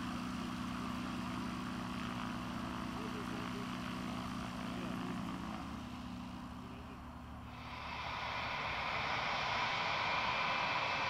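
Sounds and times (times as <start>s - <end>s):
aircraft engine and propeller drone: 0.0s - 11.0s
hiss with high whine: 0.0s - 11.0s.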